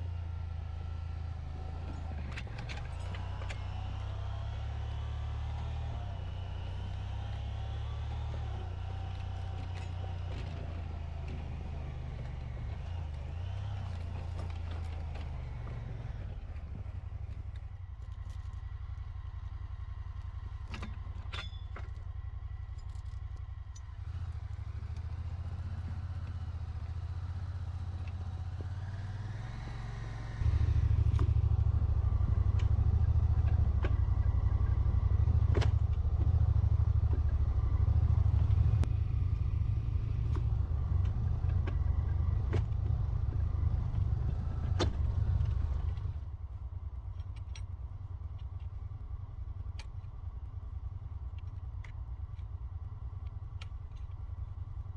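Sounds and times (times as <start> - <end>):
vehicle engine droning: 0.0 - 54.9.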